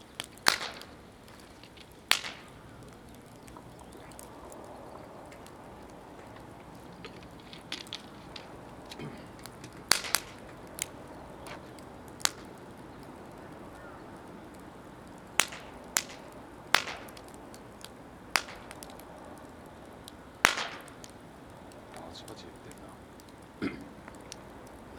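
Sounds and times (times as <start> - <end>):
low background noise: 0.0 - 24.9
wood fire crackling and popping: 0.0 - 24.9.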